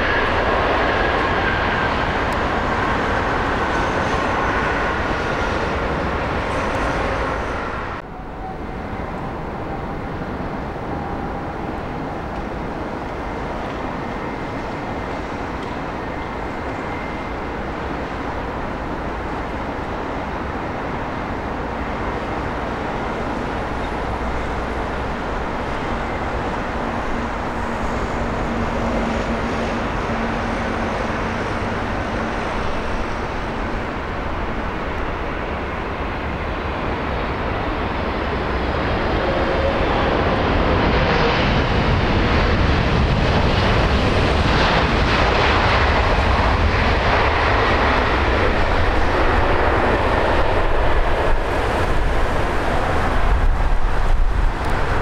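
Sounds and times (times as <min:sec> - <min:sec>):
jet engines roaring on landing: 0:00.0 - 0:55.0.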